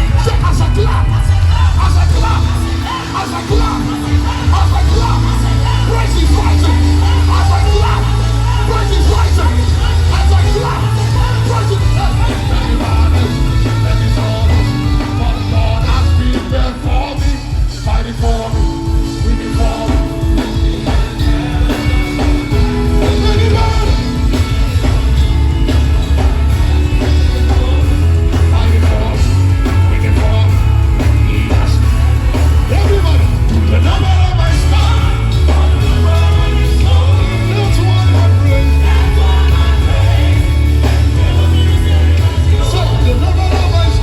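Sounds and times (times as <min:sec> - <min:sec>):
heavy sustained bass: 0:00.0 - 0:16.4, 0:22.6 - 0:44.0
band playing worship music: 0:00.0 - 0:44.0
people singing: 0:00.0 - 0:44.0.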